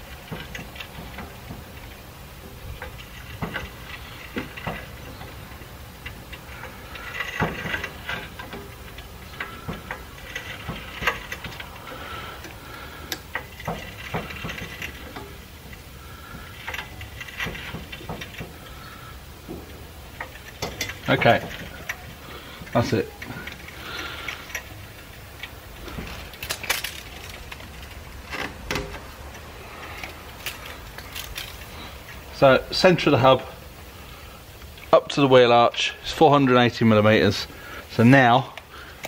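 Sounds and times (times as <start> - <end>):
trolley jack clicking and creaking: 0.0 - 35.0.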